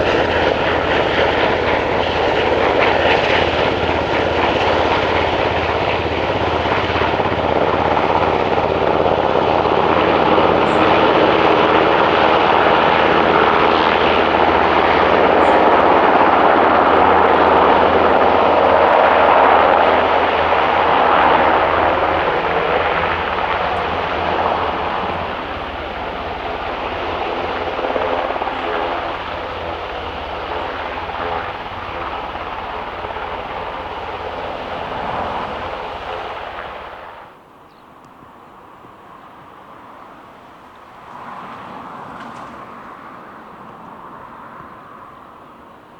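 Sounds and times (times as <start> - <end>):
aircraft engines roaring: 0.0 - 45.9.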